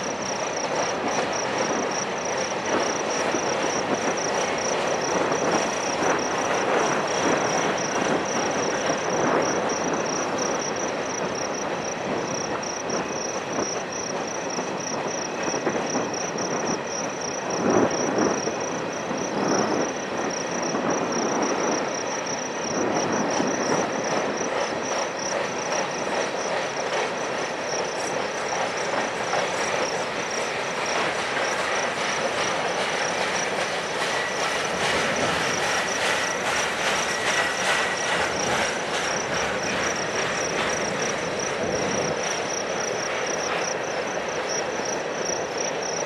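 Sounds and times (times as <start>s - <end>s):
freight train wheels rumbling: 0.0s - 46.0s.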